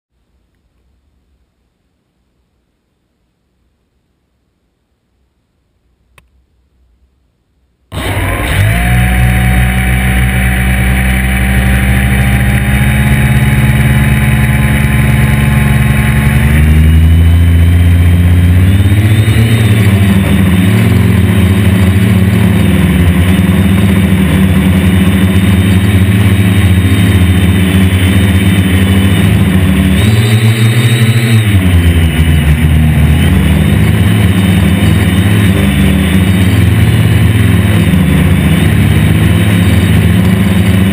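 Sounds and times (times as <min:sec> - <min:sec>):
quadcopter motors and propellers: 0:07.9 - 0:40.9.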